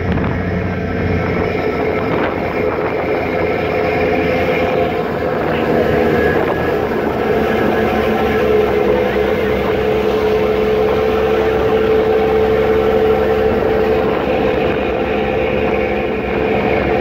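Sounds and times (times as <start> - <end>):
churning wake water: 0.0 - 17.0
ferry engines droning: 0.0 - 17.0.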